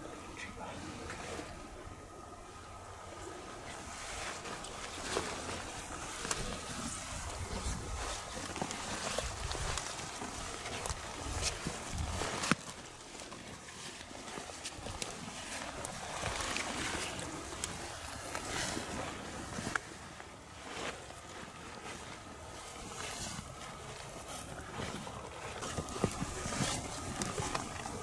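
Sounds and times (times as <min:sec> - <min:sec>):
rain gear rustling: 0:00.0 - 0:28.0
wind and rain hiss: 0:00.0 - 0:28.0
footsteps through brush: 0:03.6 - 0:28.0.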